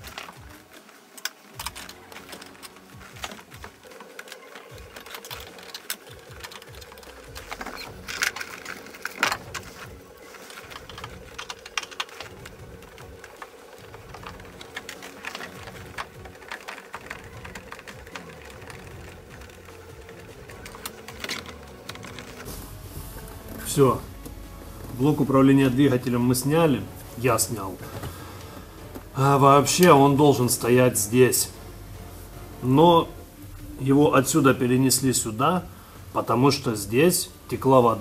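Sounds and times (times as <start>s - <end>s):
hands clicking and rustling under dashboard: 0.0s - 32.6s
faint steady hum: 0.0s - 38.0s.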